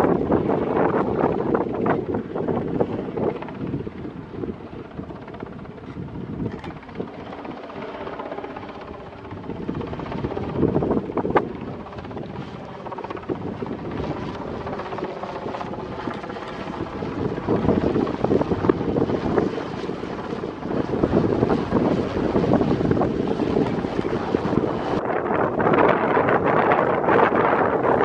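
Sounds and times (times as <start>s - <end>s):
helicopter rotor beating: 0.0s - 28.0s.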